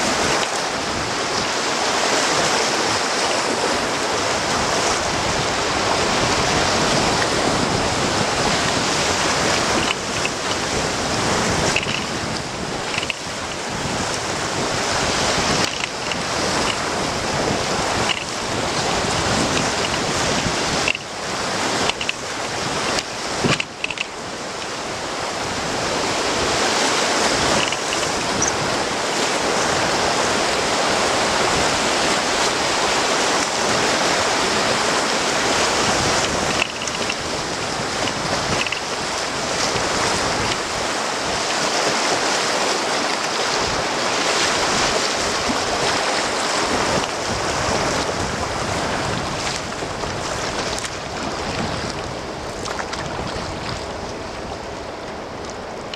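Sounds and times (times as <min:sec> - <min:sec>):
whitewater rushing over rocks: 0:00.0 - 0:55.9.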